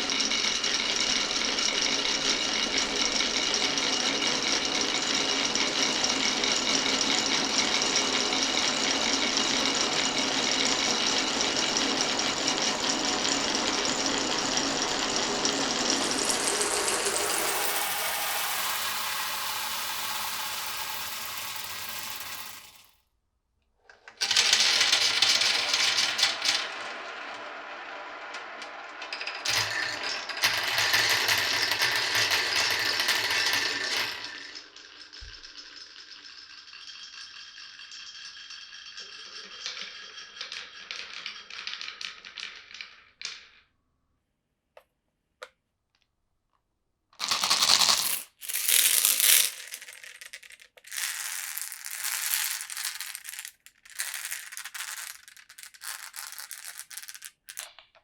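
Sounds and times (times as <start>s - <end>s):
marbles rattling down a marble run: 0.0s - 23.0s, 24.2s - 43.7s, 47.2s - 58.0s.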